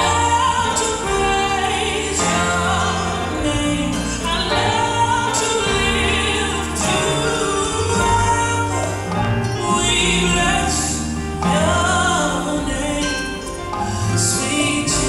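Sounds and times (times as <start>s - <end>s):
person singing with vibrato: 0.0s - 15.0s
sustained bass notes: 0.0s - 15.0s.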